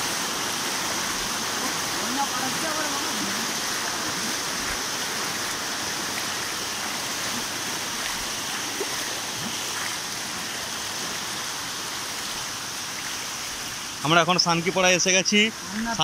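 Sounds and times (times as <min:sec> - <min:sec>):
feet wading through water: 0:00.6 - 0:14.1.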